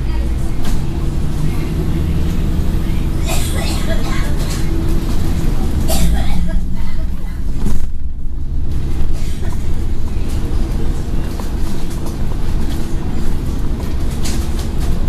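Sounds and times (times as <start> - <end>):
bus body rattling: 0.0 - 15.0
bus engine running: 0.0 - 15.0.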